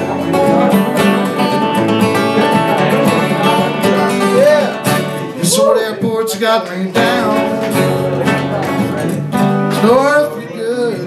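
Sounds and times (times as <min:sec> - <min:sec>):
picked lead guitar: 0:00.0 - 0:11.0
strummed acoustic guitar: 0:00.0 - 0:11.0.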